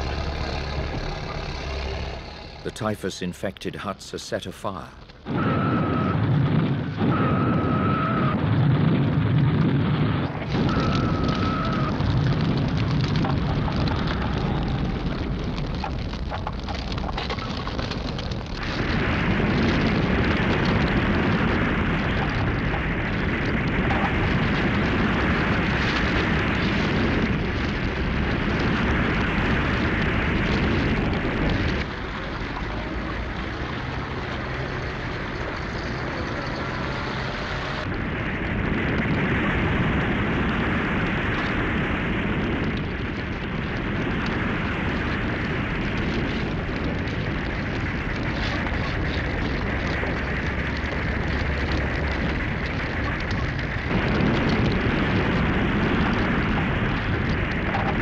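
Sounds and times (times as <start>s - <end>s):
large fire rushing: 0.0s - 58.0s.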